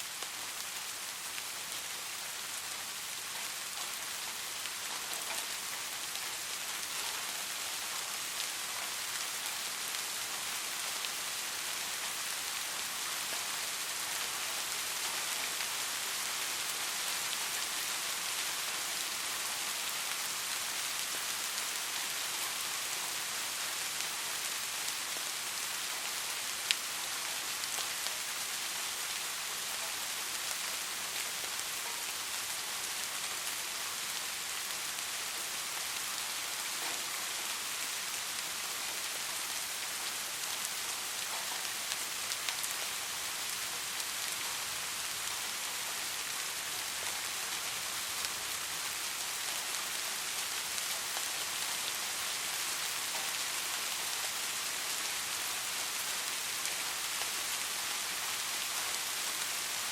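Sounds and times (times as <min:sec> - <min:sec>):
soft rain hiss: 0:00.0 - 0:59.9.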